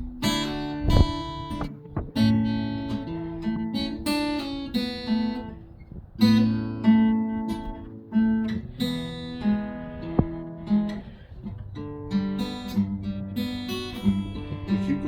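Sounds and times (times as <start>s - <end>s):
acoustic guitar fingerpicking: 0.0s - 15.0s.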